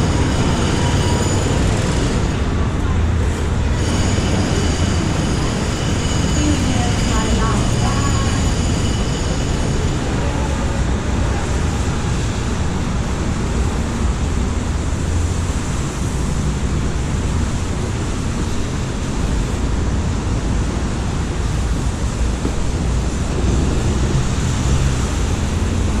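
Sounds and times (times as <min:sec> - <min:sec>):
train rushing and rumbling: 0:00.0 - 0:26.0.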